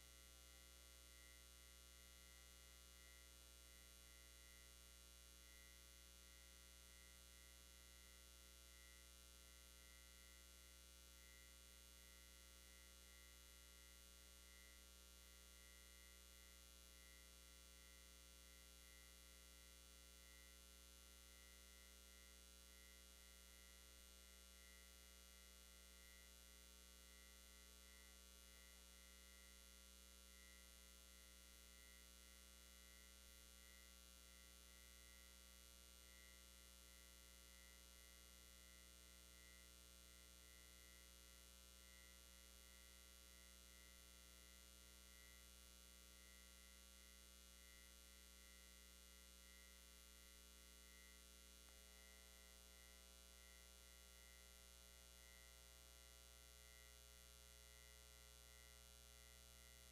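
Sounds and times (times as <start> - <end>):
faint mains hum: 0.0 - 59.9.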